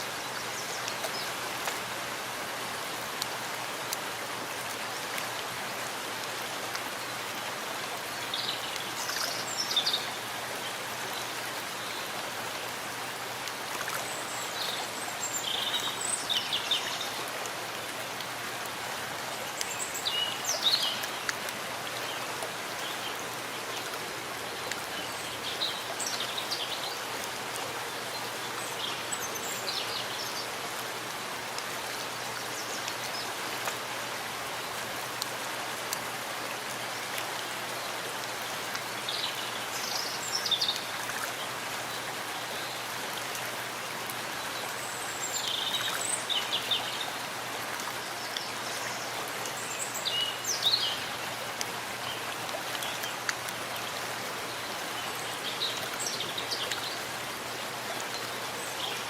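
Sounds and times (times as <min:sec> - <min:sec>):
steady rain: 0:00.0 - 0:59.0
water trickling: 0:00.0 - 0:59.0.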